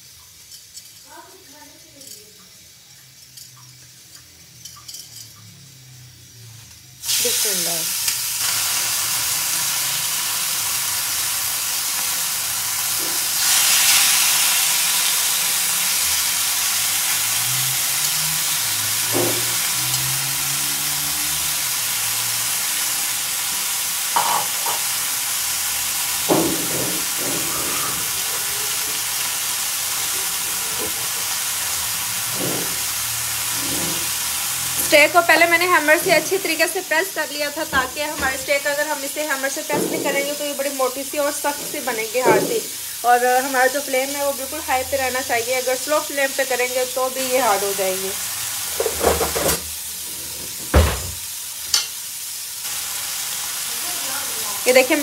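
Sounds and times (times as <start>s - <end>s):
meat sizzling on grill pan: 0.0s - 55.0s.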